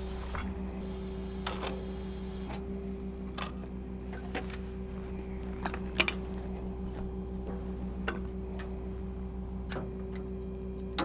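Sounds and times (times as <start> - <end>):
pump hoist rig humming: 0.0 - 11.0.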